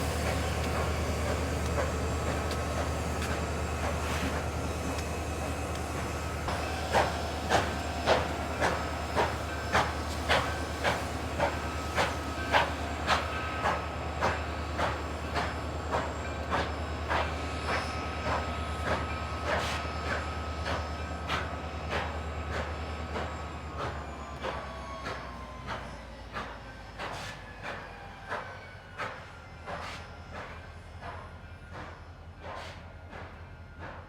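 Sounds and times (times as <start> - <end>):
train rumble: 0.0 - 34.0
train wheels beating: 0.0 - 34.0.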